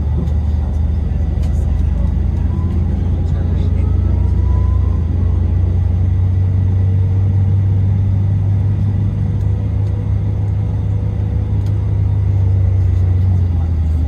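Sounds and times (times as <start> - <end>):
engine and road noise inside vehicle: 0.0 - 14.0.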